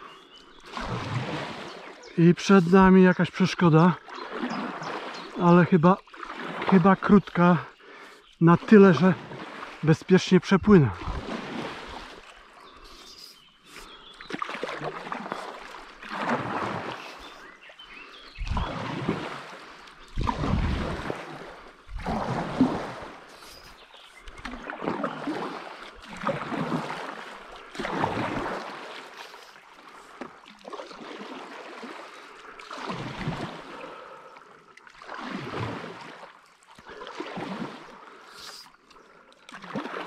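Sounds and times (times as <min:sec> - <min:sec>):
paddle strokes splashing in water: 0:00.0 - 0:40.0.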